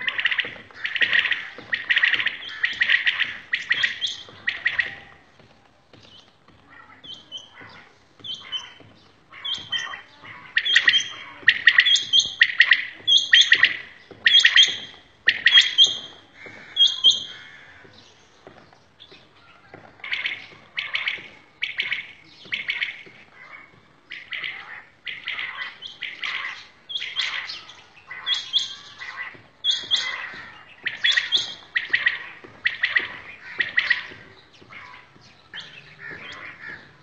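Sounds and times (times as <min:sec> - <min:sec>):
quails calling: 0:00.0 - 0:37.0.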